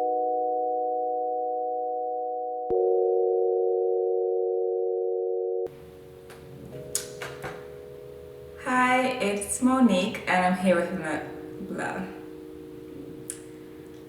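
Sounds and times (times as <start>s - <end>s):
electronic sustained chord: 2.7s - 14.0s.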